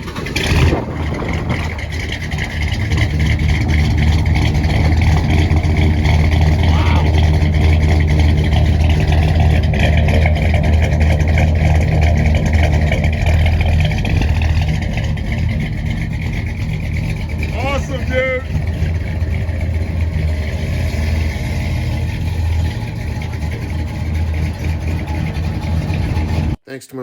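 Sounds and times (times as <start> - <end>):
car engine deep rumble: 0.0 - 26.6.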